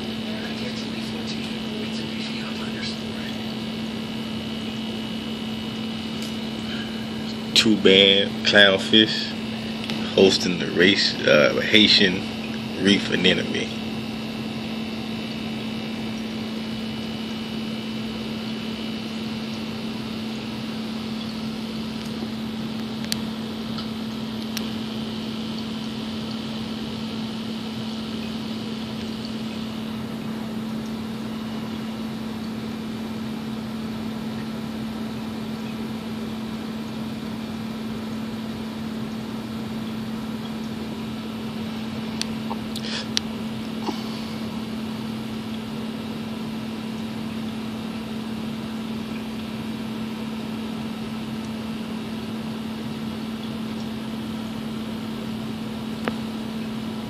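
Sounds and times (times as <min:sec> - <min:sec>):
aquarium pump hum: 0:00.0 - 0:57.0.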